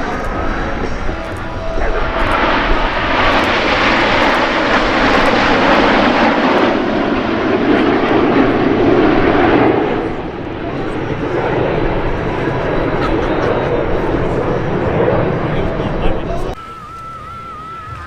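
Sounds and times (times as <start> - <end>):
airplane engine flying by: 0.0 - 18.0.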